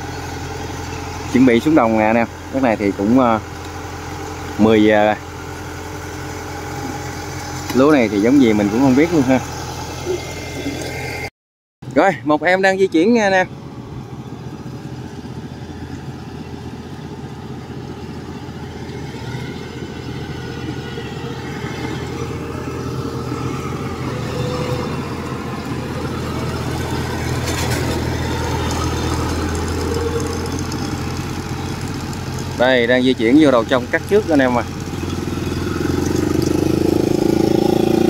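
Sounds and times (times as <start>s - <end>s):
combine harvester diesel engine: 0.0s - 38.0s.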